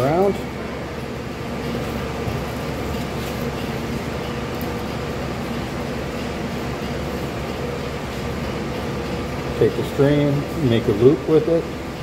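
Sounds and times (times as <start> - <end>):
fan droning: 0.0 - 12.0.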